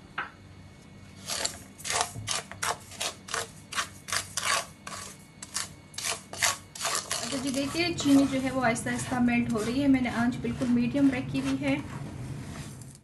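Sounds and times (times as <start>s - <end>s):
spoon scraping sugar in pan: 1.2s - 13.0s.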